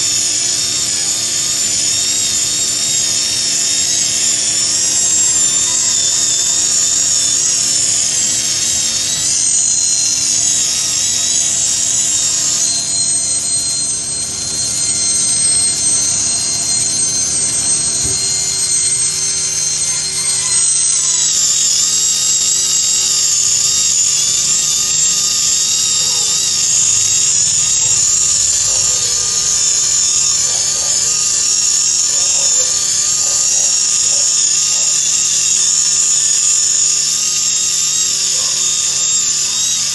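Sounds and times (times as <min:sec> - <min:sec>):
rotary polishing tool whining: 0:00.0 - 0:39.9.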